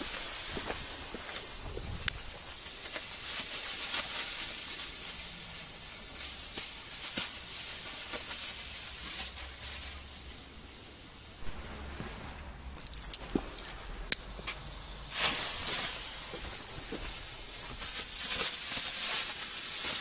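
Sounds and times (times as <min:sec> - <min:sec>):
sharp pops and crackles: 0:00.0 - 0:09.6, 0:11.2 - 0:20.0
ground spinners hissing: 0:00.0 - 0:20.0.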